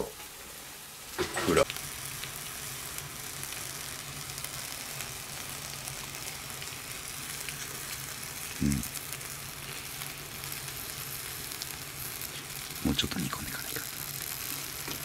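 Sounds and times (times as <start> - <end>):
food sizzling in foil tray: 0.0 - 15.0.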